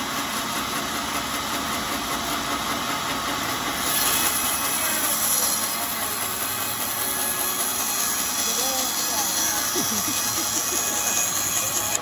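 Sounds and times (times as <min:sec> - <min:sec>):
band saw cutting wood: 0:00.0 - 0:12.0.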